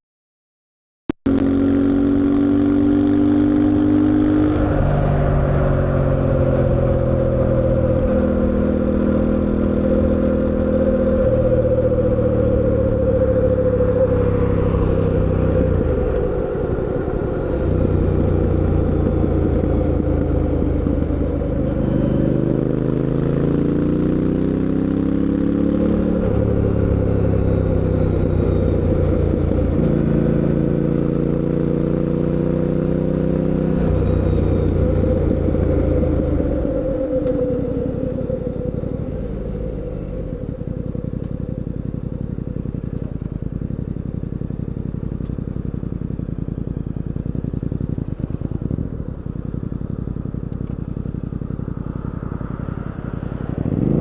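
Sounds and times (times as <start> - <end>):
motorcycle engine revving: 1.2 - 54.0.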